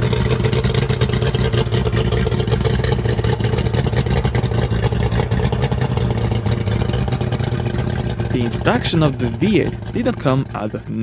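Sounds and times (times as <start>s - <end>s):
outboard engine running: 0.0s - 11.0s.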